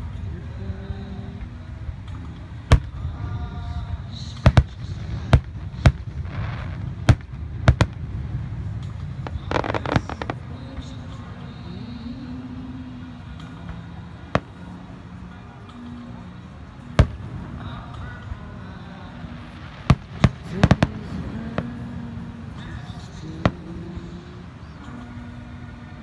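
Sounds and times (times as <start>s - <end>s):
fireworks bursting: 0.0s - 12.2s, 12.9s - 25.1s.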